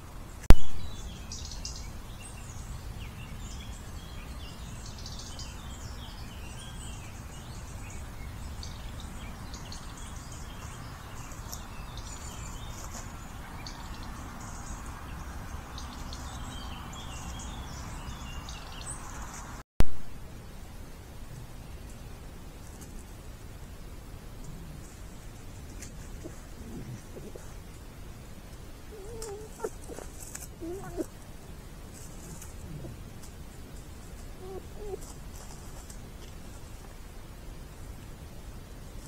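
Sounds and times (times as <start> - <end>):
small birds chirping: 0.0 - 19.6, 21.3 - 36.8.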